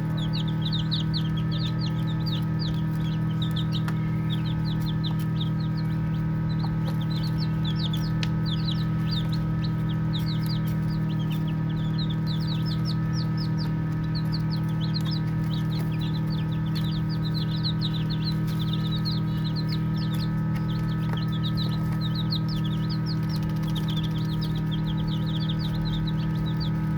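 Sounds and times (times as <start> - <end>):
baby chicks peeping: 0.0 - 26.9
steady low hum: 0.0 - 26.9.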